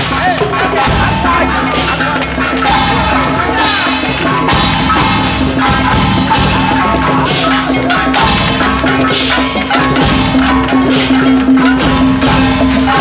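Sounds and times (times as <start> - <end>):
drum hits: 0.0 - 13.0
wavering melody: 0.0 - 13.0.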